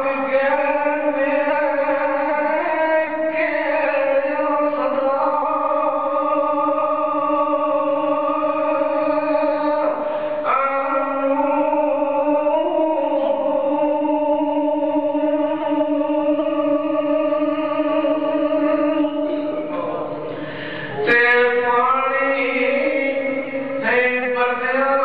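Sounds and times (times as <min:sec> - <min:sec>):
man singing long held notes: 0:00.0 - 0:25.0.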